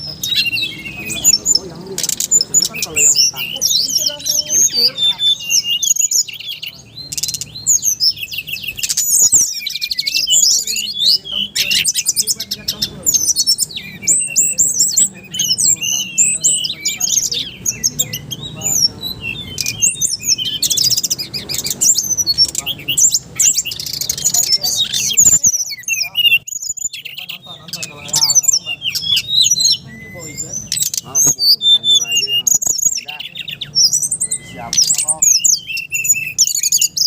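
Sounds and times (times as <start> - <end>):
bird chirping and twittering: 0.0 - 37.0.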